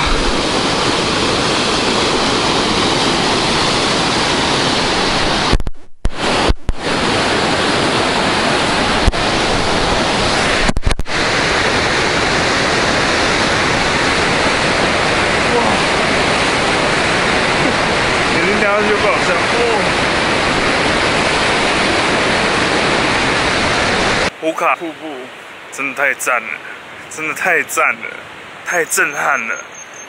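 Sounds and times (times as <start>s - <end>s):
white water rushing: 0.0s - 5.6s, 6.2s - 29.7s.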